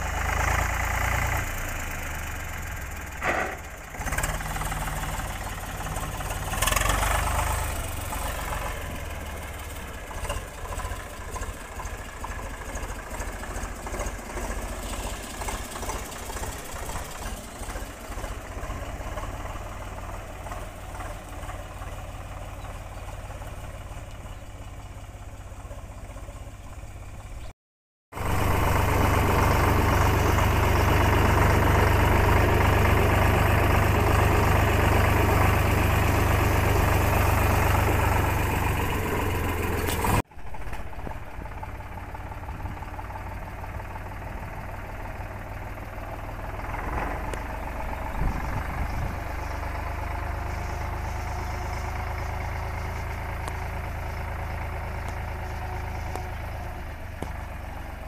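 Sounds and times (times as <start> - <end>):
tractor diesel engine running: 0.0 - 27.5, 28.1 - 58.0.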